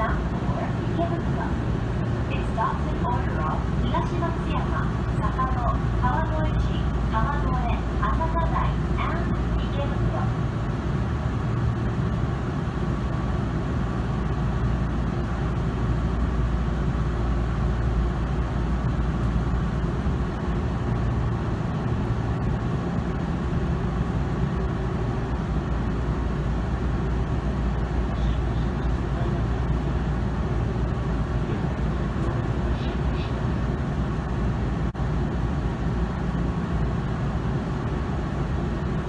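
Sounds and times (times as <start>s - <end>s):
low hum inside train car: 0.0s - 39.0s.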